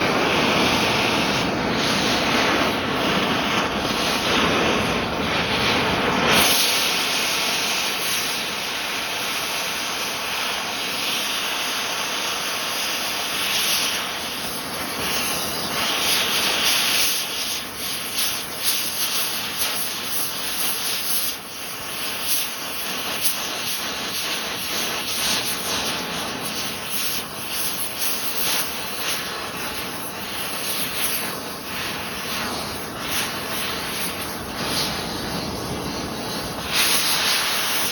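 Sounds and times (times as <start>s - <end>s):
torch flame hissing: 0.0s - 37.9s.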